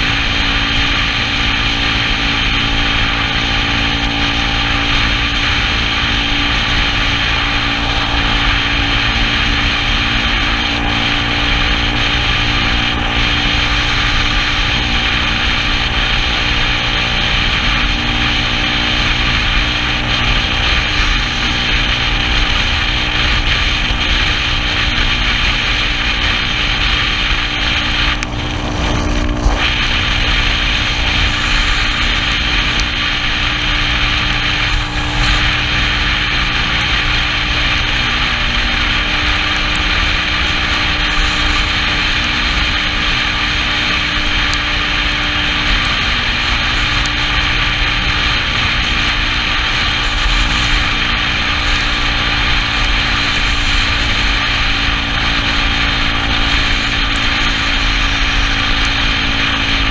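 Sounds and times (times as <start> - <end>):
scooter engine running: 0.0 - 59.9
wind and road noise: 0.0 - 59.9.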